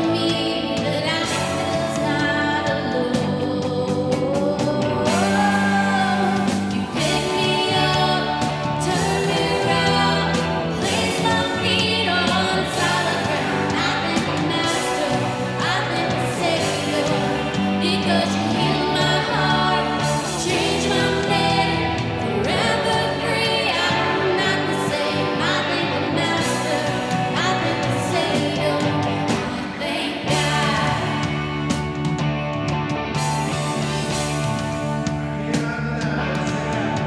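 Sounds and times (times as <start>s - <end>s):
voices singing: 0.0s - 37.0s
band playing: 1.2s - 37.0s.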